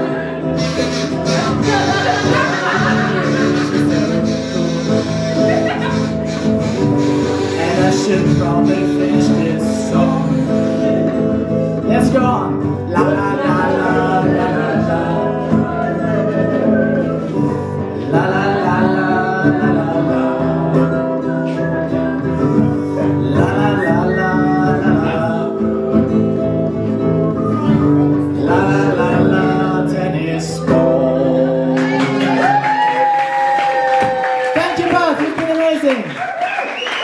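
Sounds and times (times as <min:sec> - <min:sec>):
man singing: 0:00.0 - 0:05.8, 0:07.2 - 0:32.8
acoustic guitar strumming: 0:00.0 - 0:32.6.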